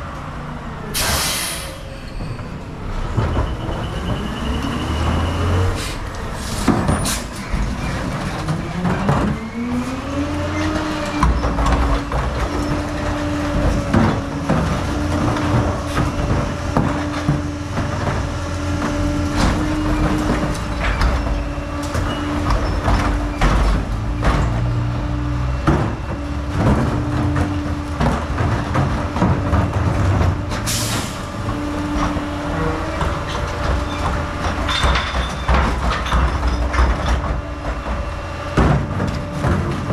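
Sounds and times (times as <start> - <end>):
garbage truck engine: 0.0 - 39.9
trash carts clanking and banging: 0.0 - 39.9.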